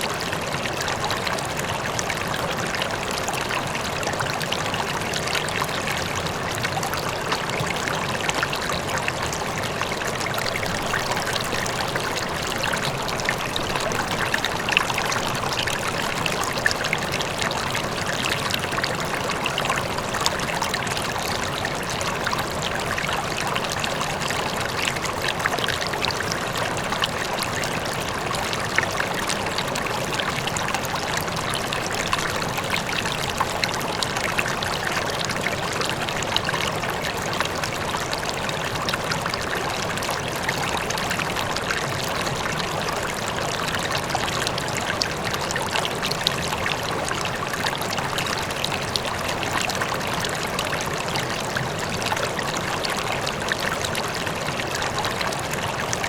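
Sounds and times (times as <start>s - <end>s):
distant waterfall: 0.0s - 56.0s
river water flowing: 0.0s - 56.0s.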